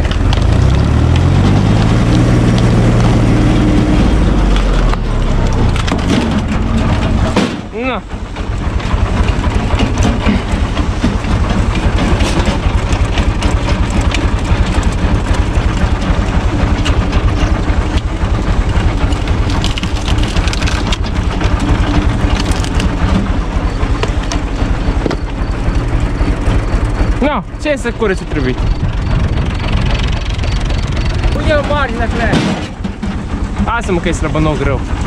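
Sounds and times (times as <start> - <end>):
tractor diesel engine under load: 0.0 - 35.0
wood cracking and crunching: 0.0 - 35.0.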